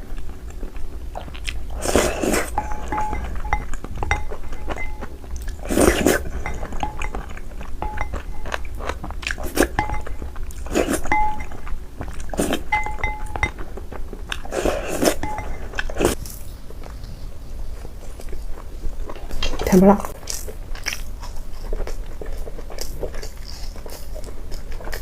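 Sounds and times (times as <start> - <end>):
chewing crunchy food: 0.0 - 12.9, 13.6 - 25.0.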